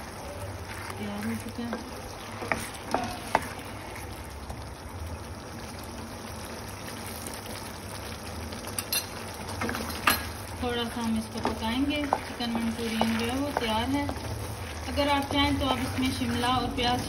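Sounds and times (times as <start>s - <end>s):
sauce bubbling in a pan: 0.0s - 17.0s.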